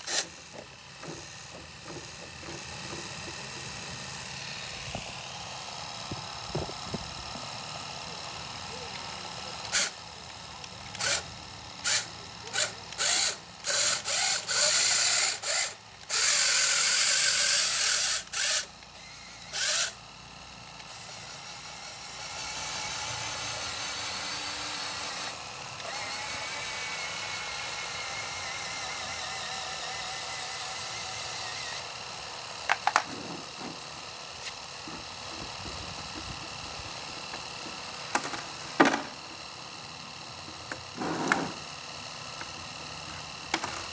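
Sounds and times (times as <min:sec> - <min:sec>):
small electric motors whirring: 0:00.0 - 0:43.9.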